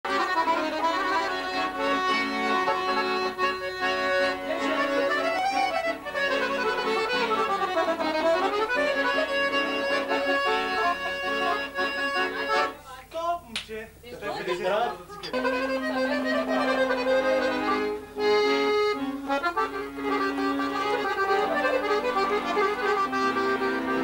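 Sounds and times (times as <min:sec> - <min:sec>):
piano accordion playing: 0:00.1 - 0:12.9, 0:14.4 - 0:24.0.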